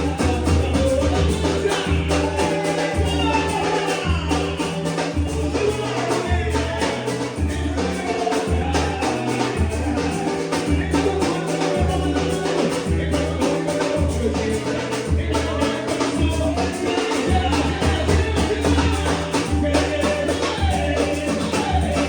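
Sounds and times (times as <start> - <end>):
music with singing and percussion: 0.0 - 22.0.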